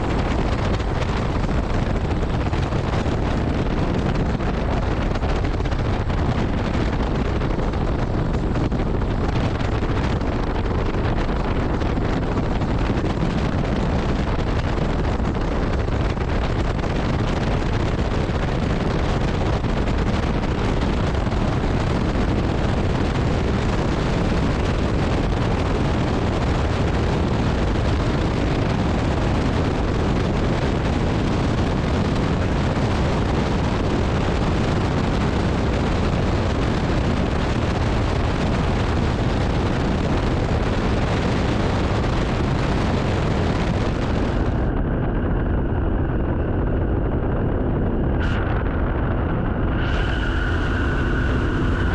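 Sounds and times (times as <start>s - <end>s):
propeller plane engine running: 0.0s - 51.9s
wind rushing over microphone: 0.0s - 51.9s.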